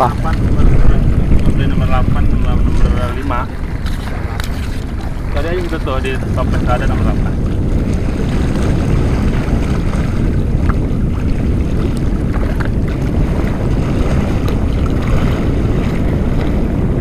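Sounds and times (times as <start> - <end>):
sea water splashing on rocks: 0.0 - 16.9
wind buffeting microphone: 0.0 - 17.0.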